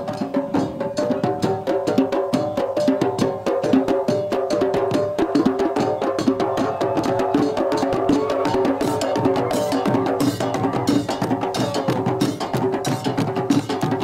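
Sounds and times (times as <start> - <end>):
hand drums struck in fast rhythm: 0.0 - 14.0.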